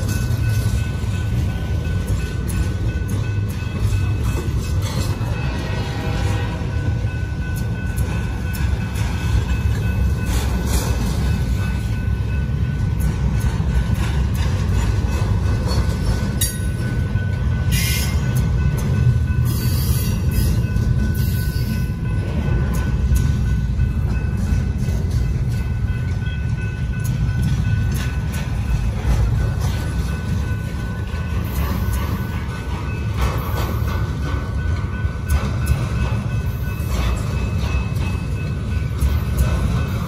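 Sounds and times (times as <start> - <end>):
freight train rumble and clatter: 0.0 - 40.0.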